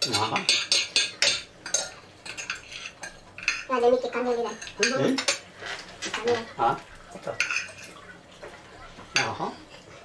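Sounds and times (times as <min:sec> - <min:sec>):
cutlery clinking on plates: 0:00.0 - 0:03.7, 0:04.5 - 0:09.5.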